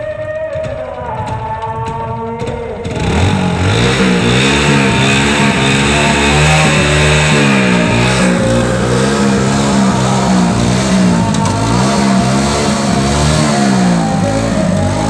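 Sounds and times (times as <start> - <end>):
engine revving: 2.9 - 15.0.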